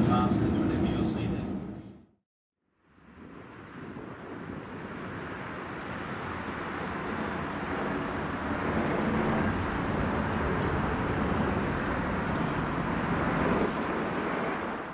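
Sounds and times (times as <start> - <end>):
aircraft passing overhead: 0.0 - 2.0, 2.8 - 14.9.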